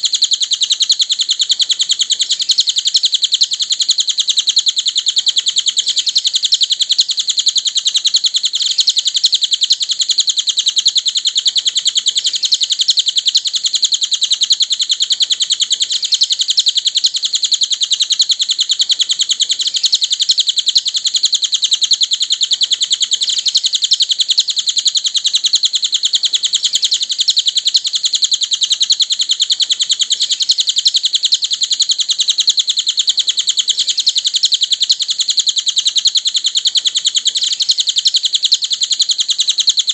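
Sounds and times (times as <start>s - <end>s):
bird song fast high chirps: 0.0s - 39.9s.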